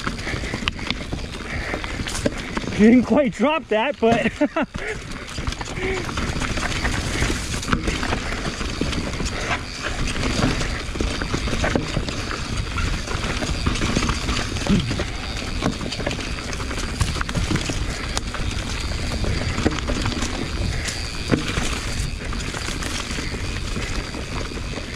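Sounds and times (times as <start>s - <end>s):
bike rattling and knocking: 0.0s - 24.9s
tyres rolling on dirt and rocks: 0.0s - 24.9s.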